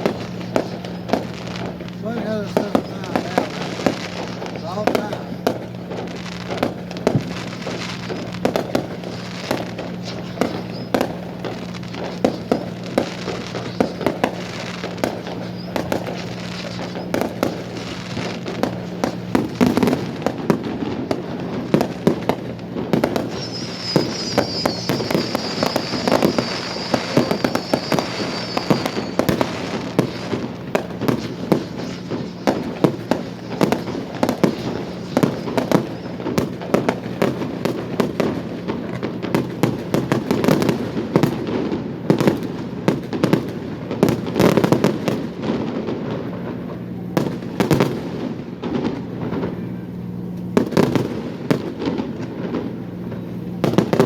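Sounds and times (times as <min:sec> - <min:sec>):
high wavering crackle: 0:00.0 - 0:45.4
fireworks bangs and pops: 0:00.0 - 0:54.0.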